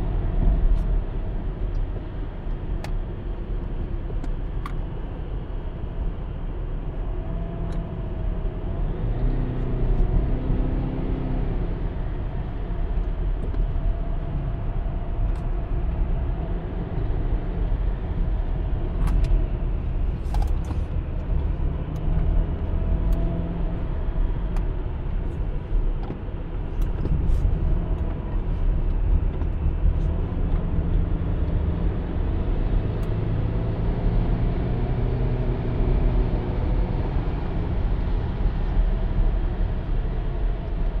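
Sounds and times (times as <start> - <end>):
car engine rumble: 0.0 - 41.0.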